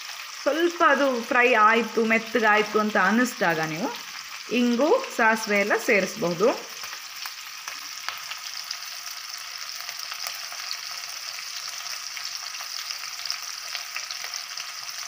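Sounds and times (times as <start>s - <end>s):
chillies sizzling in hot oil: 0.0s - 15.0s.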